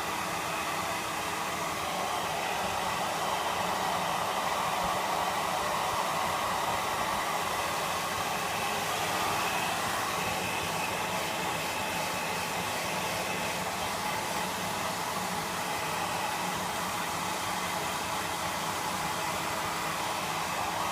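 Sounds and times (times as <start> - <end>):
hair dryer blowing: 0.0 - 20.9.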